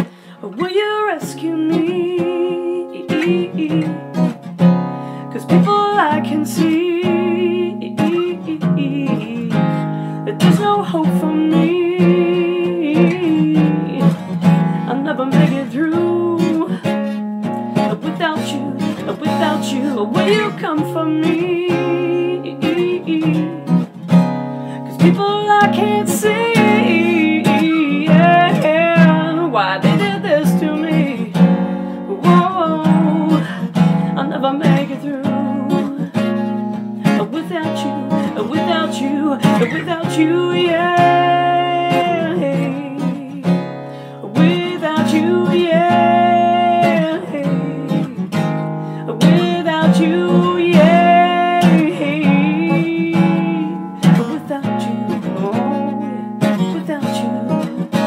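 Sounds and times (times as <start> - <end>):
person singing: 0.0 - 4.4, 5.2 - 58.0
strummed acoustic guitar: 0.0 - 58.0.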